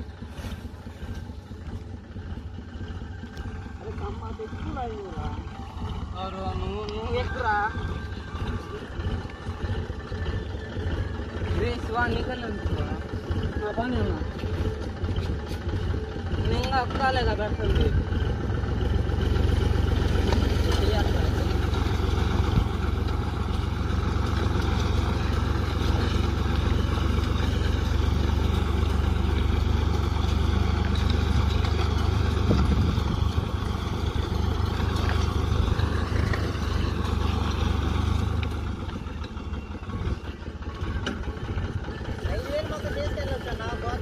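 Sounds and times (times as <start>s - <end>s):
diesel tractor engine drone: 0.0s - 44.0s.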